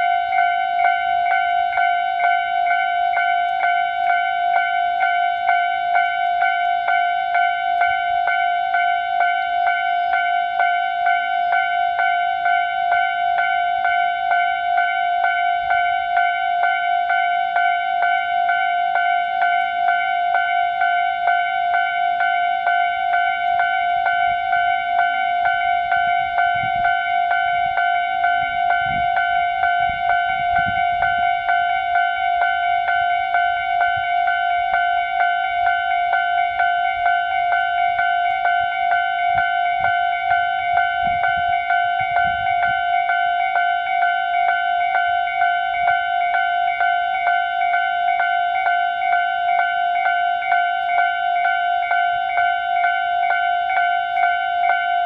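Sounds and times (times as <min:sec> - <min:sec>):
level-crossing warning bell: 0:00.0 - 0:55.0.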